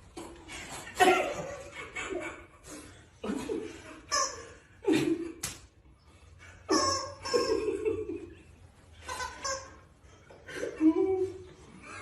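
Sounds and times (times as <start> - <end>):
people laughing: 0.4 - 5.8, 6.6 - 12.0.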